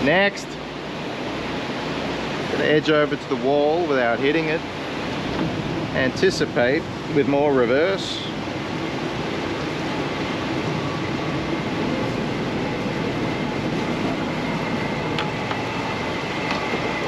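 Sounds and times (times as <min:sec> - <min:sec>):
boat engines running: 0:00.0 - 0:17.0.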